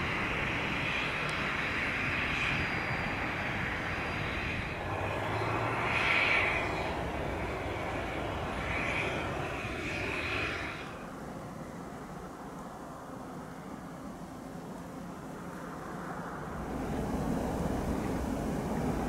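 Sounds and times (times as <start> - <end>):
jet engine whine and rush: 0.0 - 19.0.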